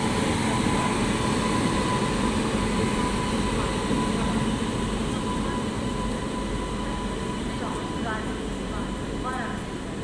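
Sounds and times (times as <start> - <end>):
constant high hum: 0.0 - 10.0.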